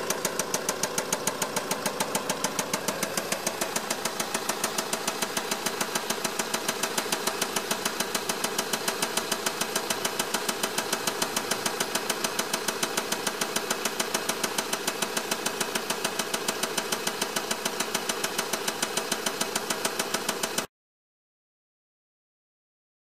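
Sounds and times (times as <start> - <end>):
diesel engine idling: 0.0 - 18.6.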